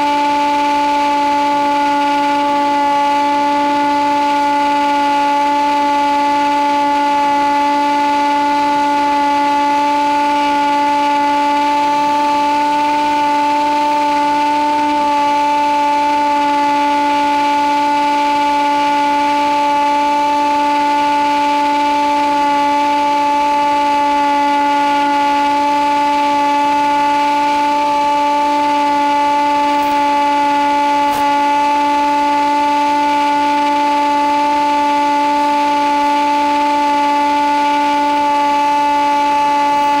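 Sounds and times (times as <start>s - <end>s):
model plane motor whine: 0.0s - 40.0s.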